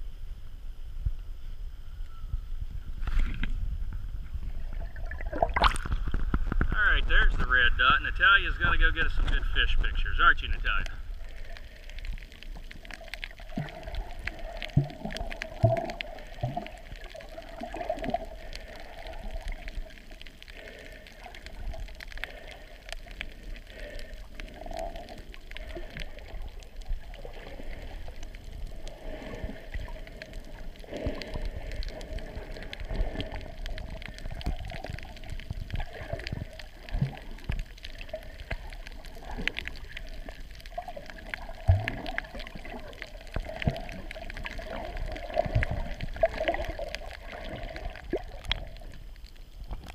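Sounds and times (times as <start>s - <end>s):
steady underwater drone: 0.0s - 49.9s
water gurgling underwater: 2.1s - 49.9s.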